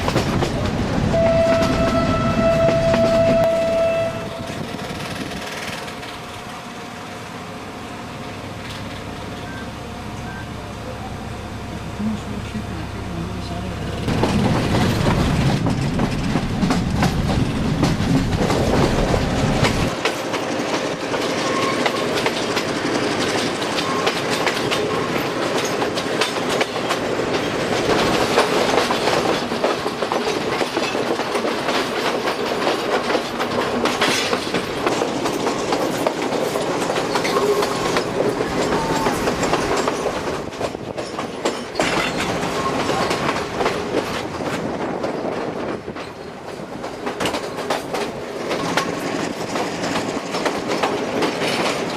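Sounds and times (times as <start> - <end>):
train wheels clattering over rail joints: 0.0 - 6.7, 8.6 - 9.6, 13.9 - 51.9.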